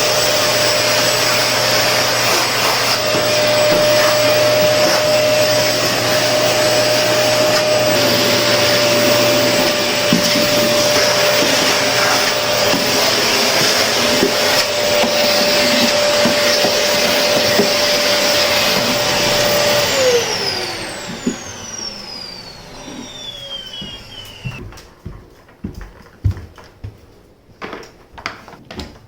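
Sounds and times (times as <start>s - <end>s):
vacuum cleaner whine: 0.0s - 25.2s.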